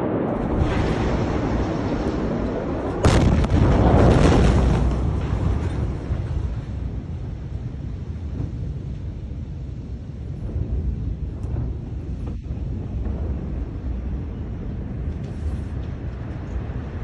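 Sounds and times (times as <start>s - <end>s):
explosion blast: 0.0s - 15.3s
deep rumble: 0.0s - 17.0s.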